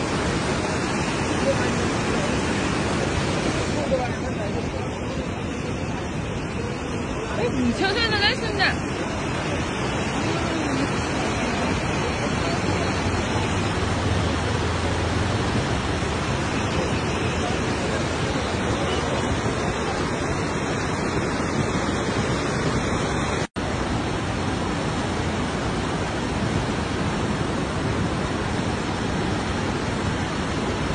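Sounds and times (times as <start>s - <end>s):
flooded river rushing: 0.0s - 30.9s.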